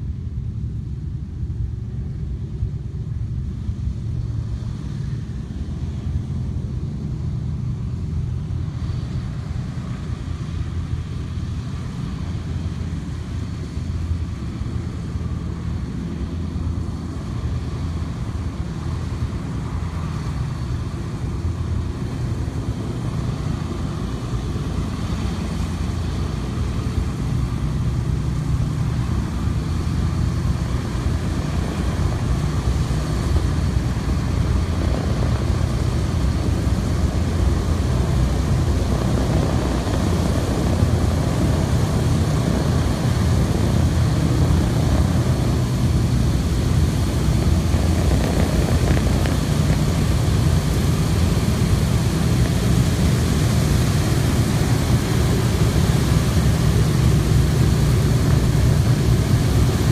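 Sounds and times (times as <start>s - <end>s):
propeller aircraft engines: 0.0s - 59.9s.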